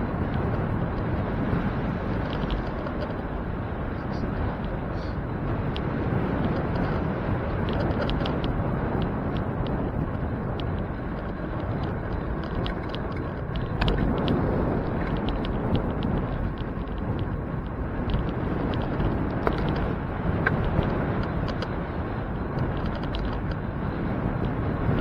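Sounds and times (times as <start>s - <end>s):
small clicks and rattles: 0.0s - 3.5s, 5.5s - 25.0s
bicycle road rumble: 0.0s - 25.0s
wind buffeting: 0.0s - 25.0s.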